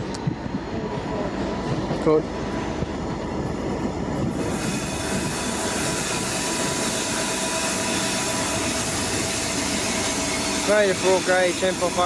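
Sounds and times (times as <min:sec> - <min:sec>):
train rushing past on rails: 0:00.0 - 0:12.0.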